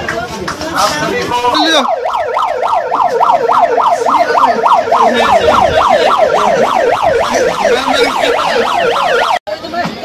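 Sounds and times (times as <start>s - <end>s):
ambulance siren yelping: 1.4s - 9.4s.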